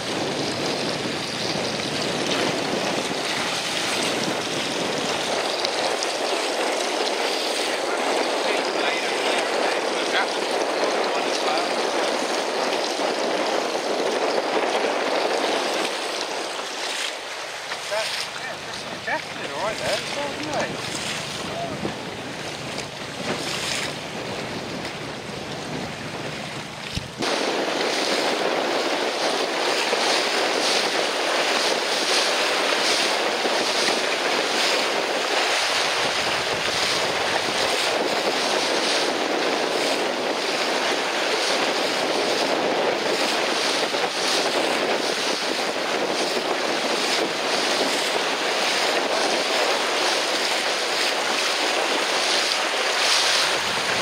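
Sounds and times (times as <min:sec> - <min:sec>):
choppy sea water: 0:00.0 - 0:54.0
wind on microphone: 0:00.0 - 0:54.0.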